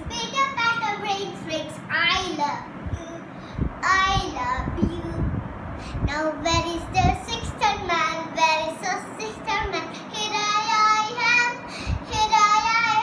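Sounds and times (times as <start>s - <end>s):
little girl singing: 0.0s - 13.0s.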